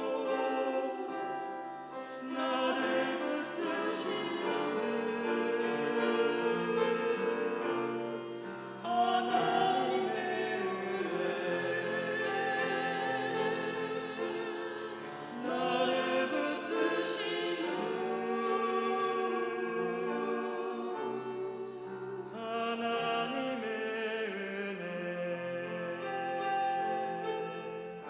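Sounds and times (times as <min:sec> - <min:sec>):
classical sacred singing: 0:00.0 - 0:28.0.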